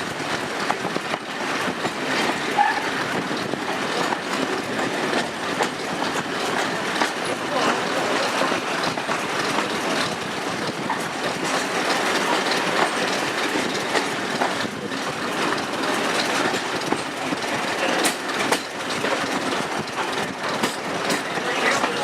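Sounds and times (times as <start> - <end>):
train running noise: 0.0 - 22.0
wheels clicking over rails: 0.0 - 22.0.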